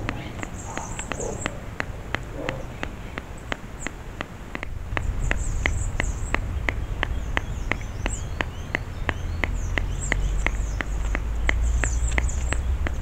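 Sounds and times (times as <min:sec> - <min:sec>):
low rumble: 0:00.0 - 0:03.4, 0:04.6 - 0:13.0
faint high chirping: 0:00.0 - 0:04.0, 0:04.8 - 0:13.0
water dripping into birdbath: 0:00.0 - 0:13.0.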